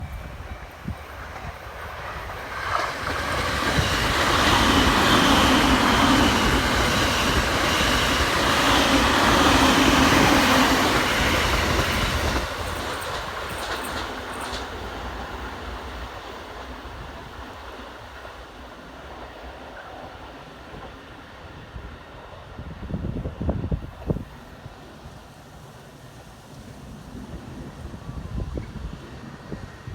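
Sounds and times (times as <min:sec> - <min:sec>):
electric train passing: 0:00.0 - 0:29.9.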